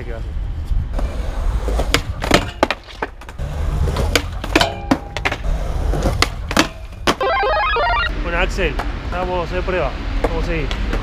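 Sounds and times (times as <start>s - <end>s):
skateboard wheels rolling on concrete: 0.0s - 7.2s, 8.4s - 11.0s.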